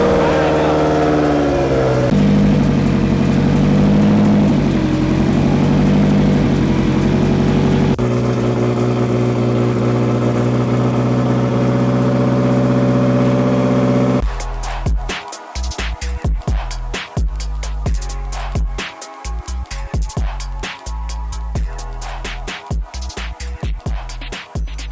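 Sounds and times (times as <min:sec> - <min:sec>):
turbocharged car engine idling: 0:00.0 - 0:22.3.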